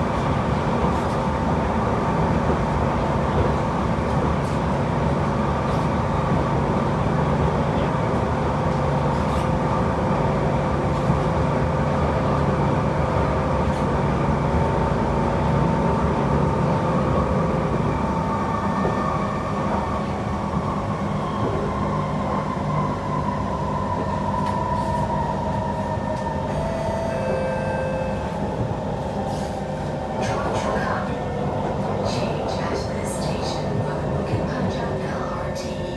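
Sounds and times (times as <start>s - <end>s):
train rumbling on rails: 0.0s - 35.9s.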